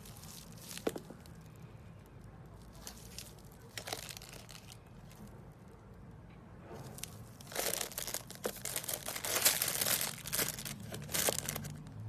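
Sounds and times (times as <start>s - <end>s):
plastic wrap crinkling: 0.0s - 5.6s, 6.9s - 12.0s.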